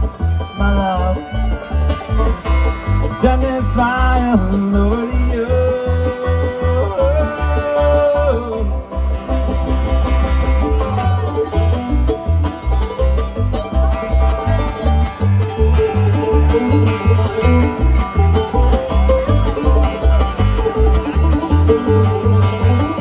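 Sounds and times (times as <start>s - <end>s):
banjo picking: 0.0s - 23.0s
guitar: 0.0s - 23.0s
pulsing bass line: 0.0s - 23.0s.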